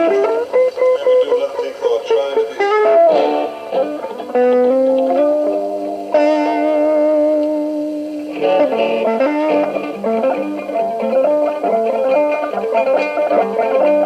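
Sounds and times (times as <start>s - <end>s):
electric guitar lead line: 0.0s - 14.0s.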